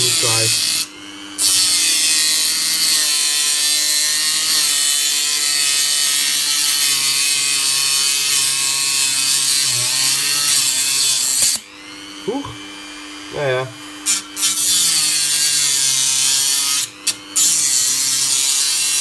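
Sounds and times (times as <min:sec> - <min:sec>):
rotary tool grinding metal: 0:00.0 - 0:12.7, 0:13.3 - 0:19.0.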